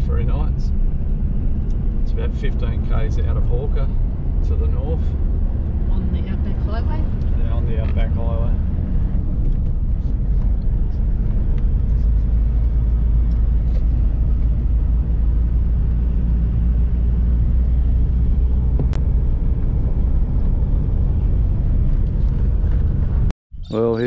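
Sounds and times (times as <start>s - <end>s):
road and engine noise in cabin: 0.0s - 24.0s.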